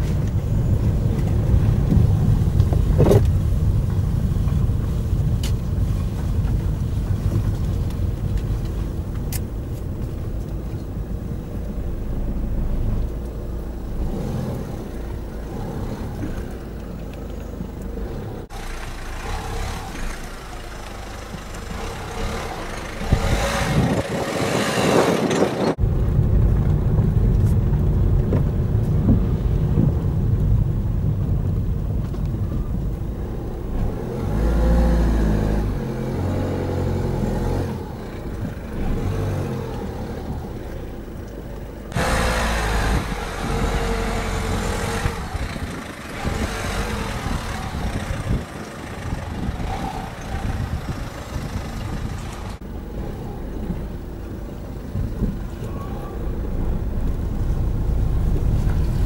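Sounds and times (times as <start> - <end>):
car engine and road noise: 0.0 - 59.0
outdoor noise: 0.0 - 59.0.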